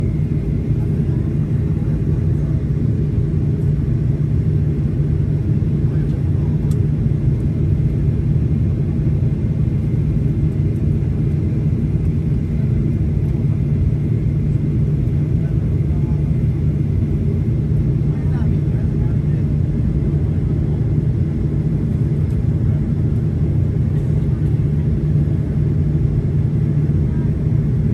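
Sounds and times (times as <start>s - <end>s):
jet engine drone in airplane cabin: 0.0s - 27.9s.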